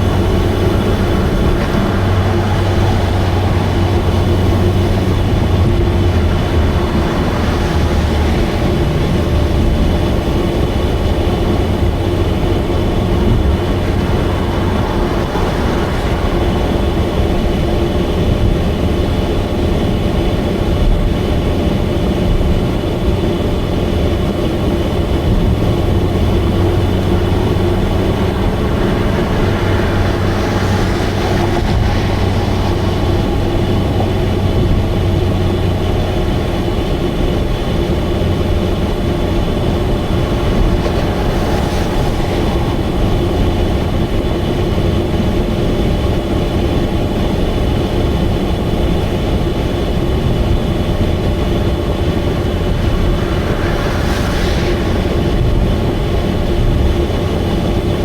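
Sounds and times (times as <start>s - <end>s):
car engine with leaking exhaust: 0.0s - 58.0s.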